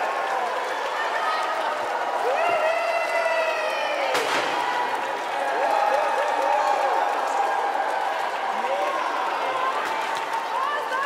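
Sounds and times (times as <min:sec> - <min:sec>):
crowd cheering: 0:00.0 - 0:11.0.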